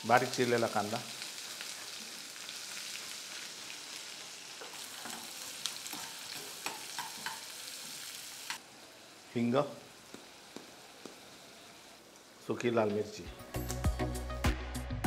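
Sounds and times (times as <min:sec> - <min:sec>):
onion sizzling in a pan: 0:00.0 - 0:13.2.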